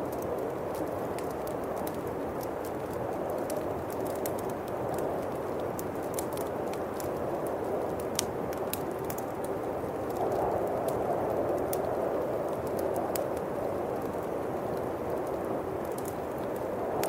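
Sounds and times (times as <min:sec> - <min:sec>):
bonfire crackling: 0:00.0 - 0:17.0
howling wind: 0:00.0 - 0:17.0.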